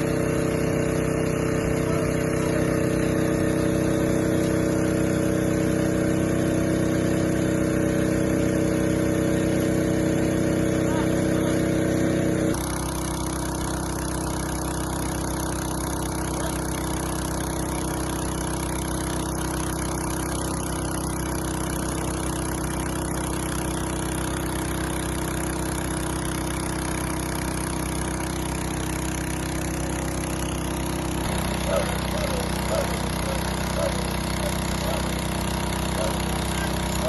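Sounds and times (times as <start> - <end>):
engine running steadily: 0.0 - 37.0.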